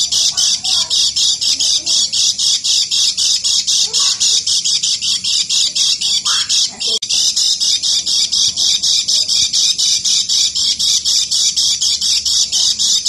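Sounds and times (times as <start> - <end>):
bird chattering: 0.0 - 13.0.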